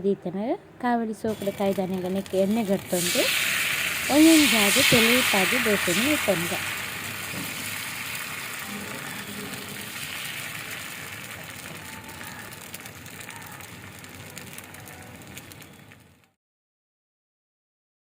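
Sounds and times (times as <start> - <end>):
batter sizzling on hot pan: 1.3 - 16.3.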